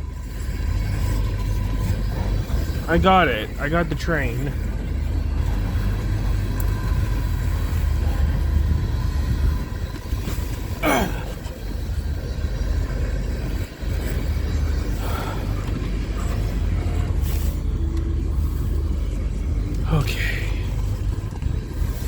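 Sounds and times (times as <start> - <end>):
freight train rumble: 0.0 - 22.0.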